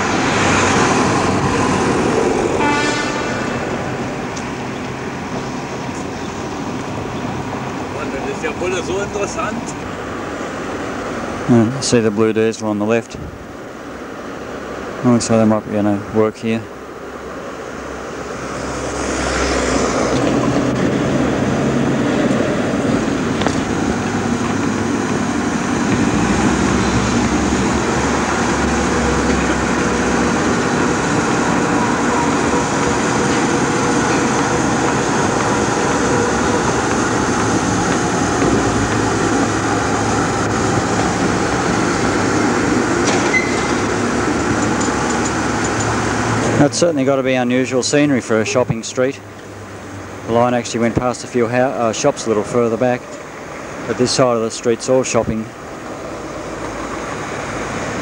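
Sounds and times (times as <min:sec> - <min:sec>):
diesel locomotive and wagons rolling: 0:00.0 - 0:58.0.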